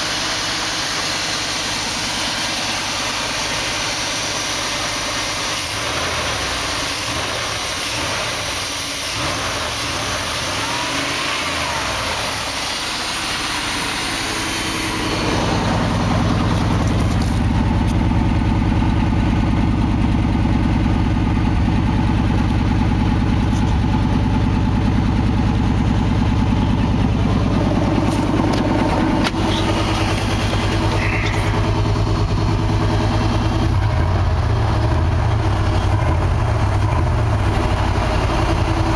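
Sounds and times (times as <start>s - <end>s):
pickup truck engine idling: 0.0s - 38.9s
deep exhaust note: 5.7s - 38.9s.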